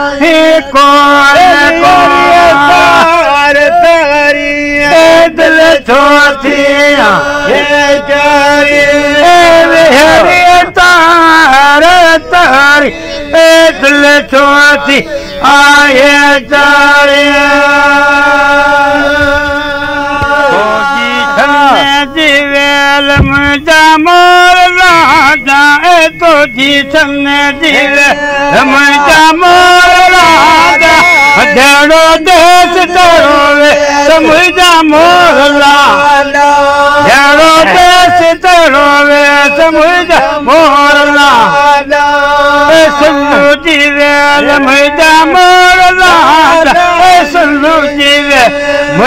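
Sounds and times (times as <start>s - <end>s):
men singing folk chant: 0.0s - 49.0s.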